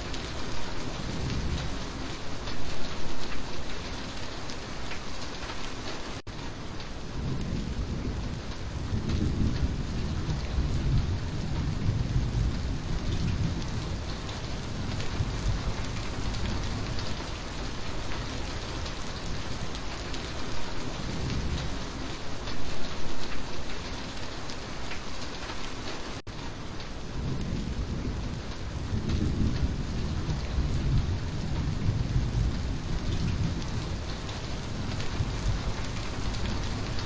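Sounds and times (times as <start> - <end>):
rolling rumble of thunder: 0.0 - 3.7, 7.0 - 23.4, 27.0 - 37.0
steady rain falling: 0.0 - 37.0.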